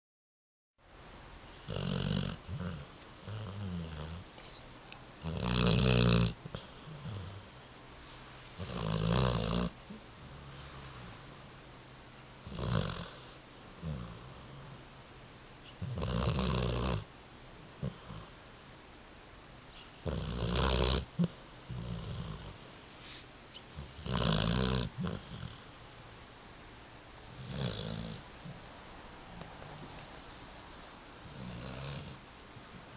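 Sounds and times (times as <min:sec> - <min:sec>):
dog snoring: 0:01.5 - 0:07.6, 0:08.5 - 0:11.8, 0:12.4 - 0:19.2, 0:19.8 - 0:22.7, 0:23.5 - 0:25.8, 0:27.2 - 0:30.5, 0:31.2 - 0:32.9.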